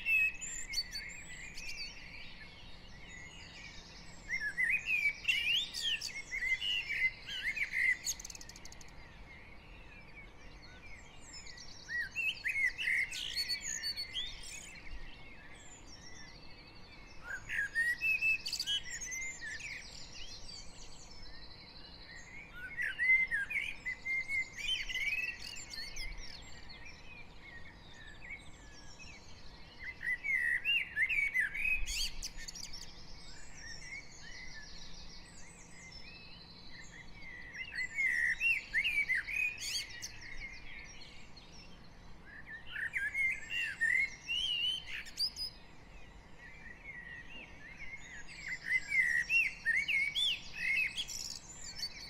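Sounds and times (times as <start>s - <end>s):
bird singing warbling phrases: 0.0s - 52.0s
birds twittering: 0.0s - 52.0s.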